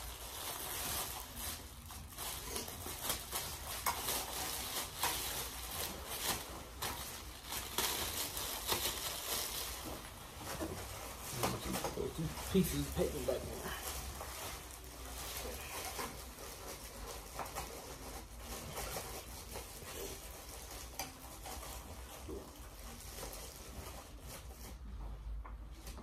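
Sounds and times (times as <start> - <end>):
plastic packaging crinkling: 0.0 - 24.9.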